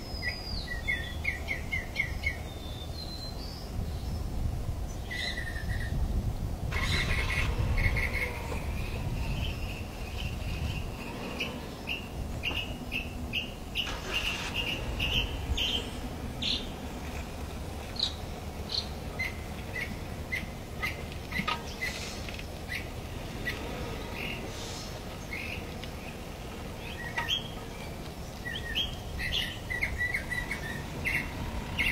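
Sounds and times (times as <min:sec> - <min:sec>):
birds chirping: 0:00.0 - 0:06.1, 0:06.7 - 0:31.9.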